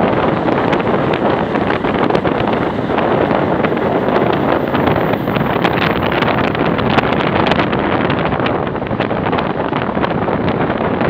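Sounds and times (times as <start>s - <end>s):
train running on track: 0.0s - 10.8s
wind rushing on microphone: 0.0s - 11.0s.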